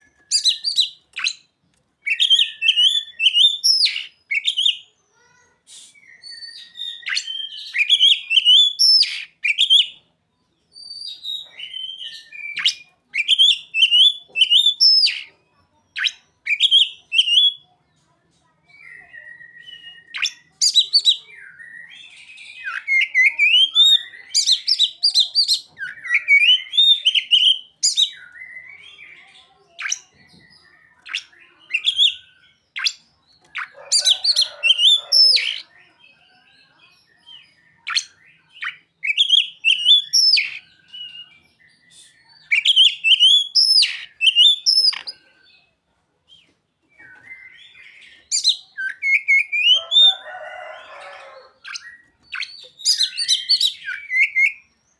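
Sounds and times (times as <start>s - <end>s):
songbird chirps and whistles: 0.0s - 5.0s, 5.7s - 17.8s, 18.6s - 45.7s, 46.3s - 54.9s.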